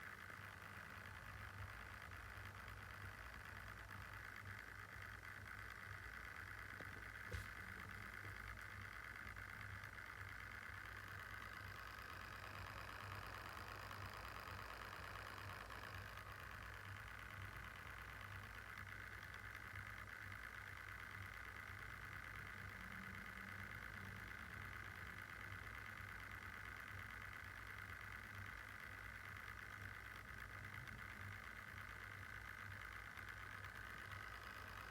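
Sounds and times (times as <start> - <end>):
laptop cooling fan whirring: 0.0 - 34.9.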